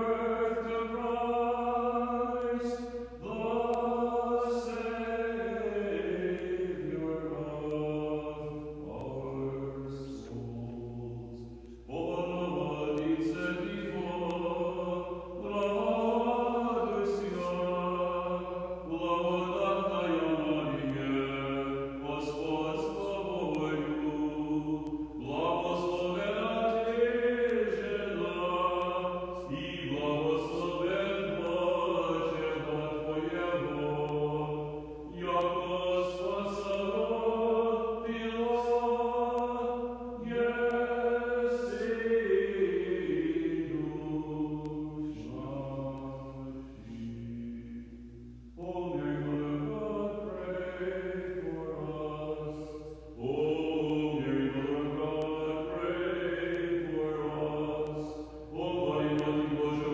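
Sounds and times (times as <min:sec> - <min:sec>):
unaccompanied liturgical chant: 0:00.0 - 0:59.9.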